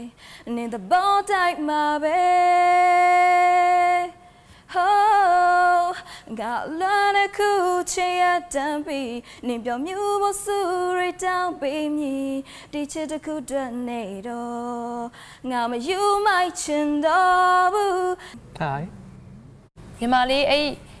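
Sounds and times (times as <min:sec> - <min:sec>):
woman singing a cappella: 0:00.0 - 0:18.4.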